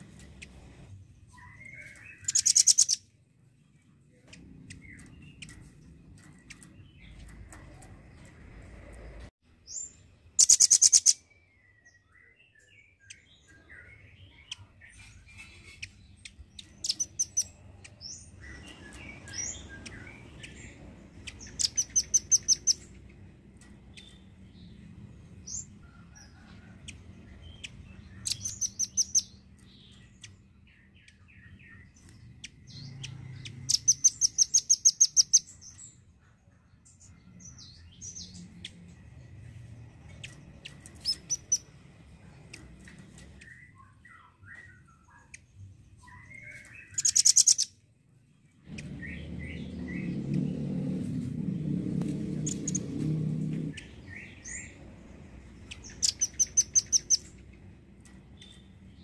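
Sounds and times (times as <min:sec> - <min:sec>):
bird chirps: 0:00.0 - 0:47.8, 0:52.1 - 0:59.0.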